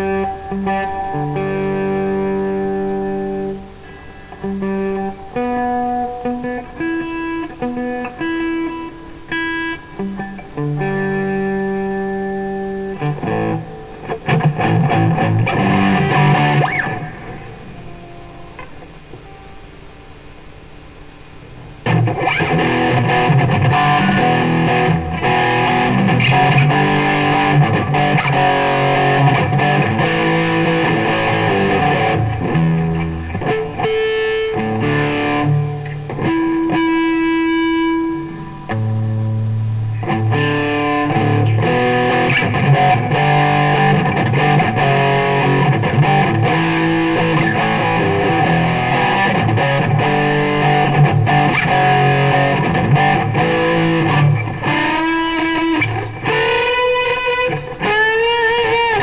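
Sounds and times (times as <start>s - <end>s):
distorted electric guitar riffs: 0.0s - 59.0s.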